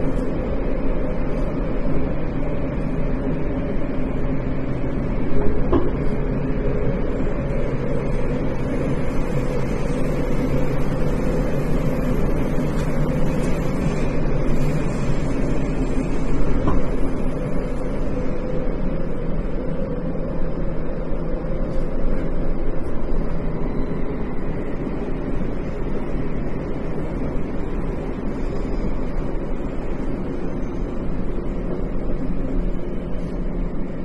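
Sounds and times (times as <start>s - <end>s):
wheels rumbling on rail: 0.0s - 34.0s.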